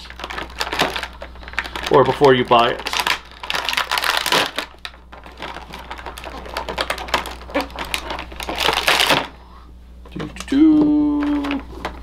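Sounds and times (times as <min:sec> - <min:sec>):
plastic packaging clicks and crinkles: 0:00.0 - 0:09.4, 0:10.1 - 0:12.0.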